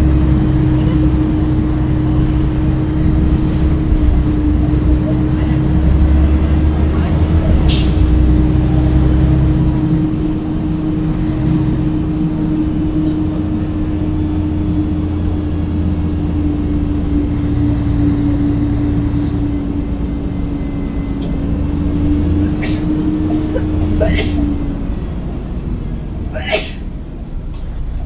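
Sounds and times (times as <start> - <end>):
bus engine drone: 0.0 - 28.0.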